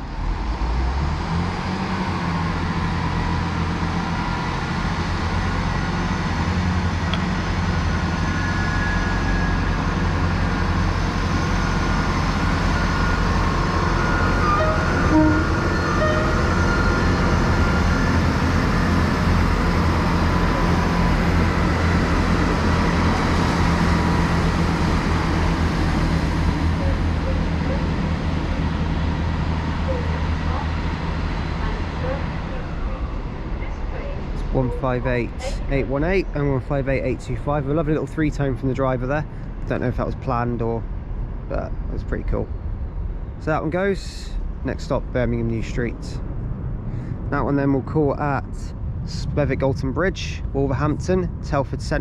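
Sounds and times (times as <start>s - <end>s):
train diesel engines throbbing: 0.0s - 52.0s.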